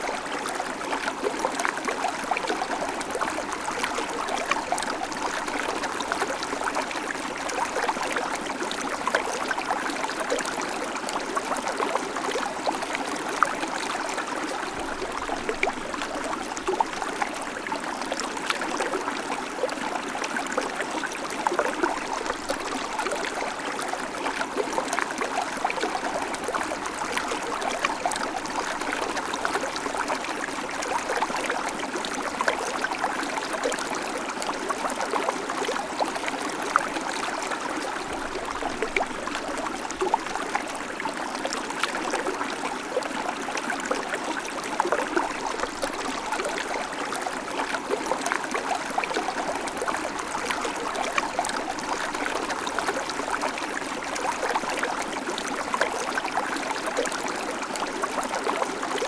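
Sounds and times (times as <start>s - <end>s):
creek water over stones: 0.0s - 59.0s.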